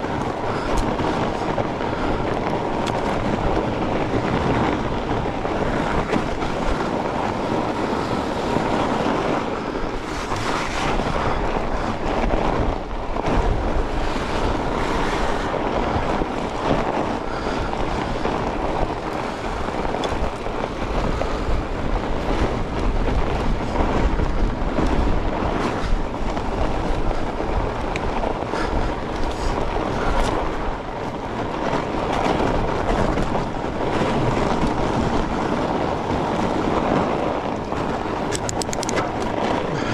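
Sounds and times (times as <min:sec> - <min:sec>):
bike knocks and rattles: 0:00.0 - 0:39.9
bike tyres rolling on frozen trail: 0:00.0 - 0:39.9
wind on microphone: 0:00.0 - 0:39.9.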